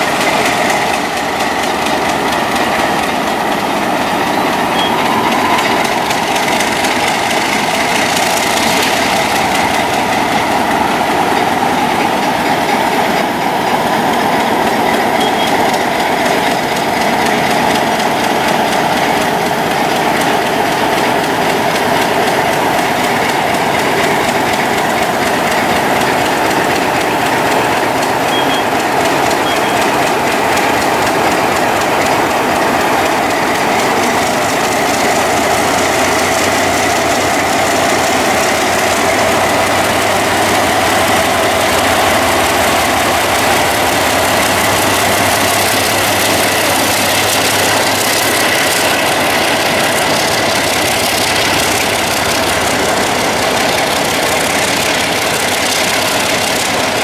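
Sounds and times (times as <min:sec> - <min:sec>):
boxcars clattering on rails: 0:00.0 - 0:57.0
diesel locomotive engine under load: 0:00.0 - 0:57.0.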